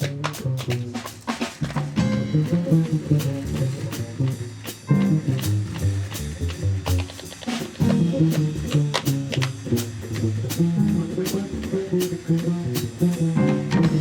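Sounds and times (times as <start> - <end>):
jazz band playing: 0.0 - 14.0.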